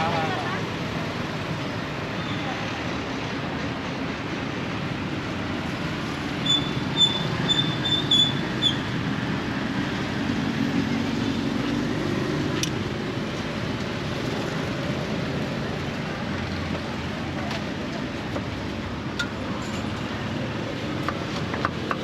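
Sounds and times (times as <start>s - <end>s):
busy street traffic: 0.0s - 22.0s.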